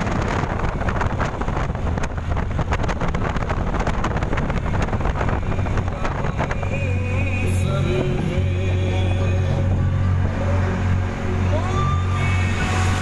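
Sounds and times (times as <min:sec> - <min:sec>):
vehicle engine and road drone: 0:00.0 - 0:13.0
wind buffeting microphone: 0:00.0 - 0:13.0.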